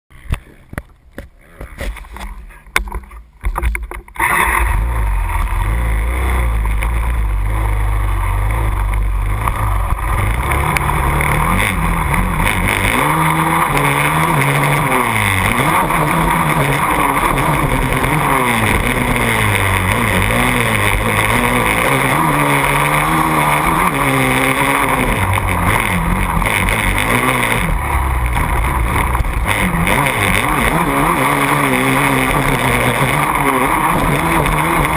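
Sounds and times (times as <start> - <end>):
quad engine revving: 4.2 - 34.9.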